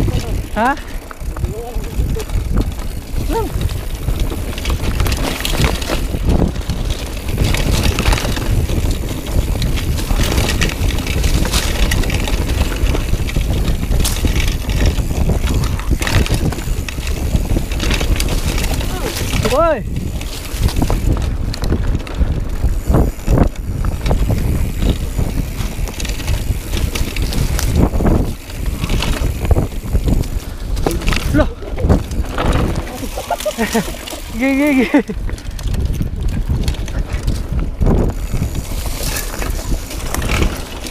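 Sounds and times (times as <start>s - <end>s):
bike rattling: 0.0s - 40.9s
tyres crunching on loose stones: 0.0s - 40.9s
wind rumbling on microphone: 0.0s - 40.9s.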